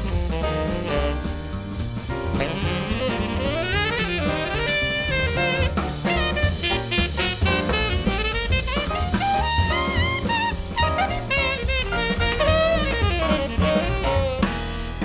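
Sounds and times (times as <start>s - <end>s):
jazz music with drum beat: 0.0s - 15.0s.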